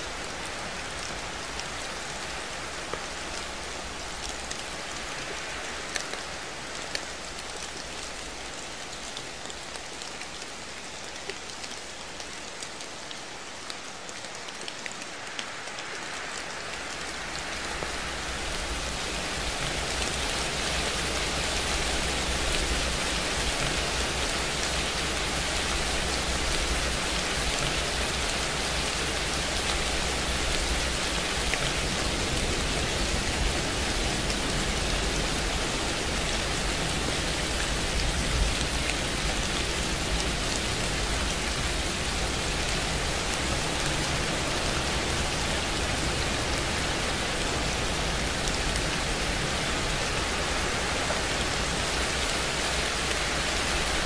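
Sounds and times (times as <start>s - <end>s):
rain hiss: 0.0s - 54.0s.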